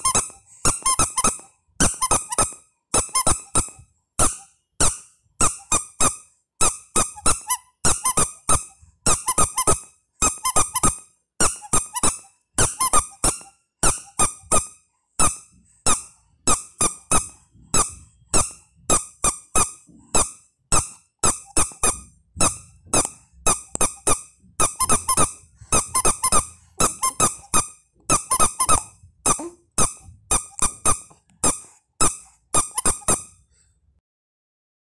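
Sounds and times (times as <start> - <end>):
squeaky rubber duck: 0.0 - 33.5.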